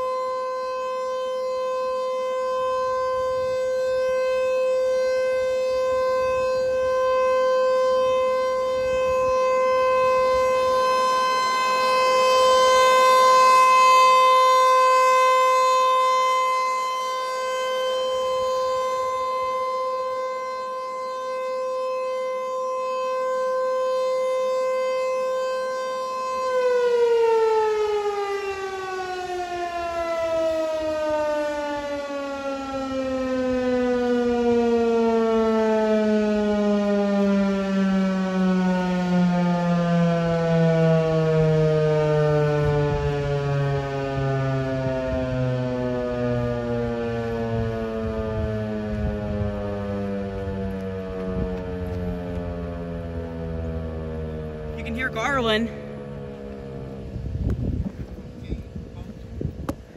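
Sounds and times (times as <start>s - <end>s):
warning siren single-tone alert: 0.0s - 57.2s
siren winding down: 0.0s - 59.8s.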